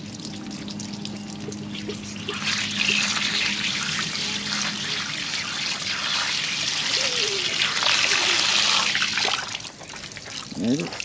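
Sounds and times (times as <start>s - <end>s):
water splashing onto concrete: 0.0s - 11.0s.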